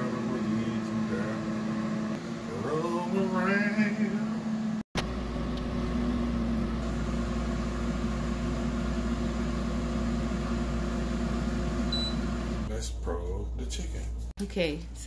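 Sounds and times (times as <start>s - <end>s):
air fryer fan and motor hum: 0.0s - 14.2s.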